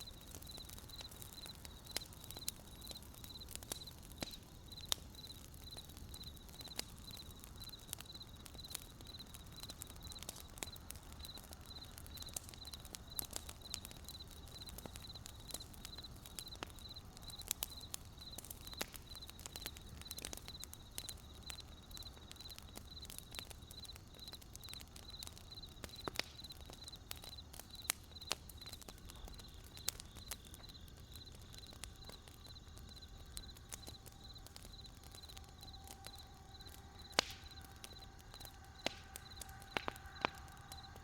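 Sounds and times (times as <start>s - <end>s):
campfire crackling and popping: 0.0s - 41.0s
crickets chirping: 0.0s - 41.0s.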